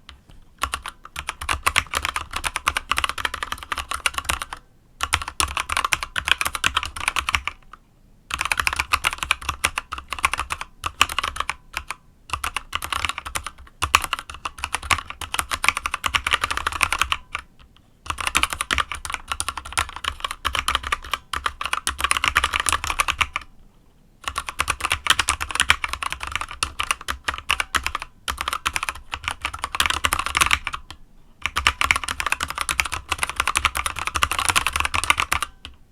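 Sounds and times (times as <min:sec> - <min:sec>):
typing on mechanical keyboard: 0:00.6 - 0:17.5, 0:18.1 - 0:23.5, 0:24.2 - 0:35.8.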